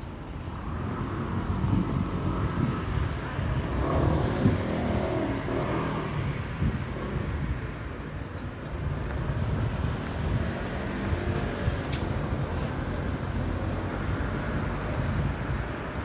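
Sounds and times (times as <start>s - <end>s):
road traffic noise: 0.0s - 16.0s
vehicle passing: 0.0s - 16.0s.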